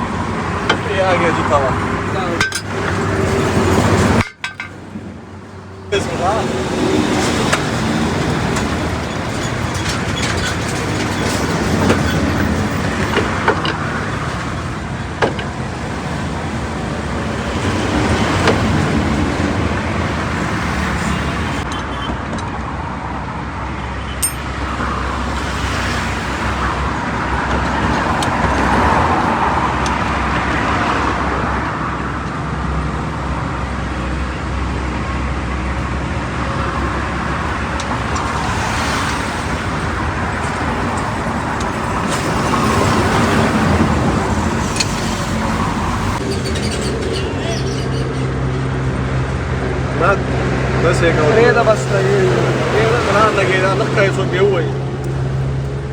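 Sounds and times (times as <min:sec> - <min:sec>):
highway traffic passing: 0:00.0 - 0:55.9.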